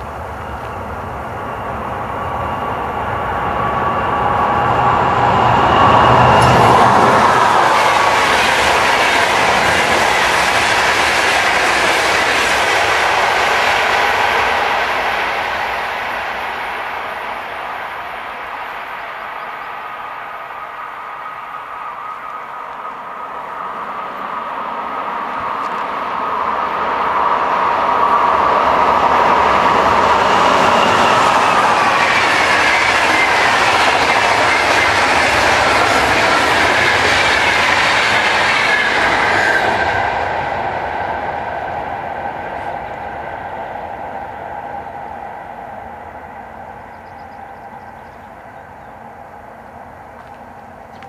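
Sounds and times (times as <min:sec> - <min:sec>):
train passing on rails: 0:00.0 - 0:51.0.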